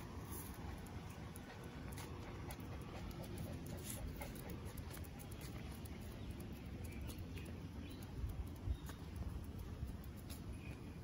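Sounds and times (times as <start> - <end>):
footsteps on paving stones: 0.0 - 11.0
low steady rumble: 0.0 - 11.0.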